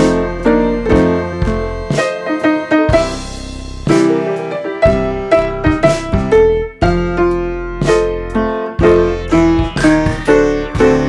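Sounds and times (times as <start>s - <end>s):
piano-like keyboard melody: 0.0s - 11.0s.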